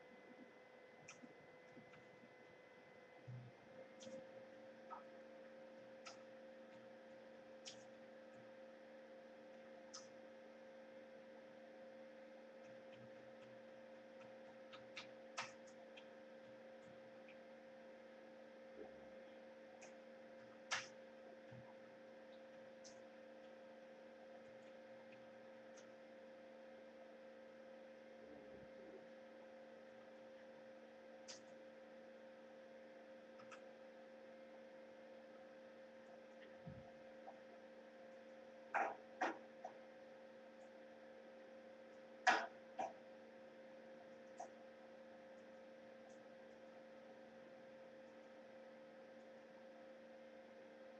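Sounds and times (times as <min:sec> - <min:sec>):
steady electrical hum: 0:00.0 - 0:50.9.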